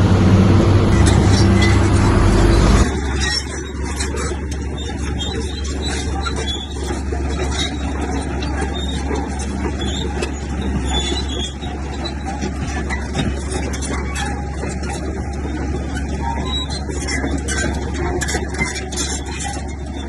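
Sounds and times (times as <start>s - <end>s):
diesel engine rumbling: 0.0s - 20.0s
metallic rattling and clanking: 0.0s - 20.0s.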